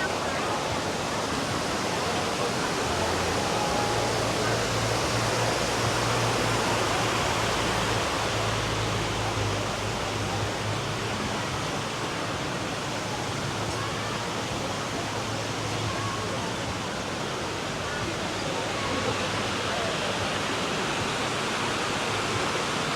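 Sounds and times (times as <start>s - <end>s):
river water rushing: 0.0s - 22.9s.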